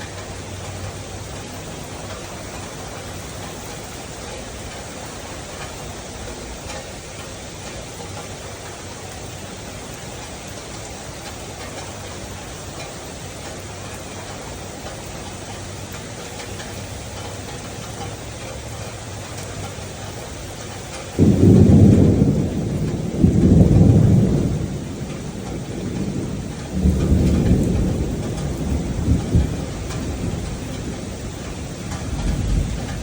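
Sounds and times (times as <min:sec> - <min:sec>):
rain falling: 0:00.0 - 0:33.0
rolling thunder: 0:00.0 - 0:33.0.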